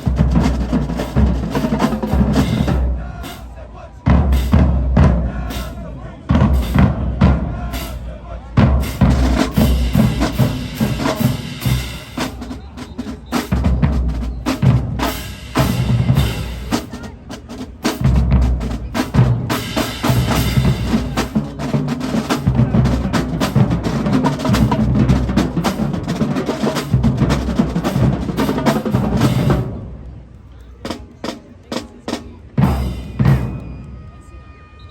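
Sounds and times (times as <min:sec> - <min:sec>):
snare drums with rolls and rimshots: 0:00.0 - 0:30.0, 0:30.8 - 0:34.0.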